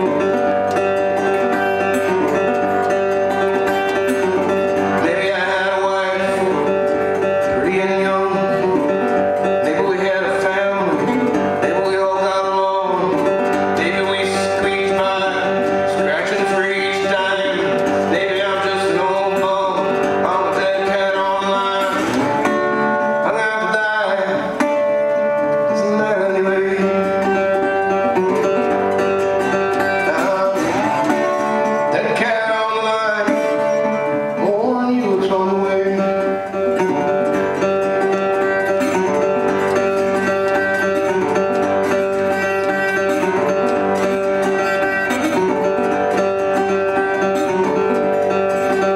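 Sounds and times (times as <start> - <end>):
fingerstyle acoustic guitar: 0.0 - 48.9.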